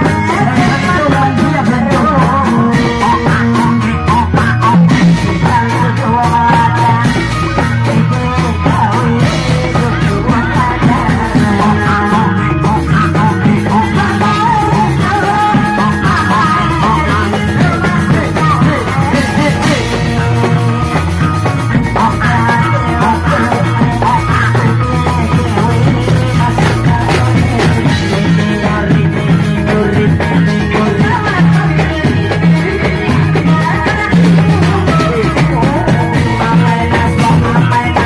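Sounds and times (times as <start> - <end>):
drum beat over loudspeakers: 0.0 - 38.0
steady bass: 0.0 - 38.0
wavering melody line: 0.0 - 38.0.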